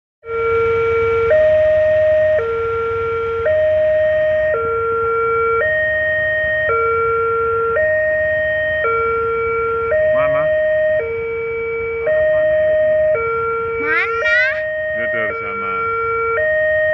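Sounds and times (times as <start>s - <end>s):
level crossing two-tone alarm: 0.2s - 16.9s.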